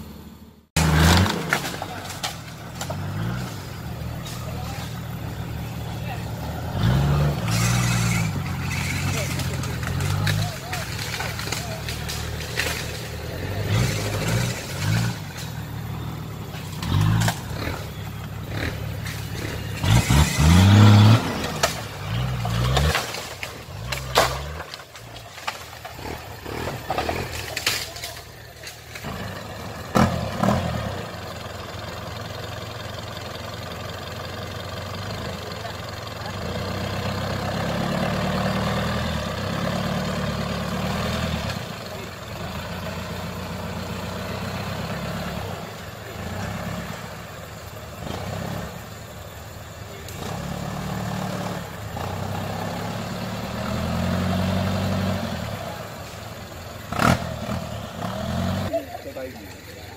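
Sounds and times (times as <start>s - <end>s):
engine revving hard: 0.8s - 27.9s, 28.9s - 31.4s, 36.2s - 49.1s, 50.0s - 58.8s.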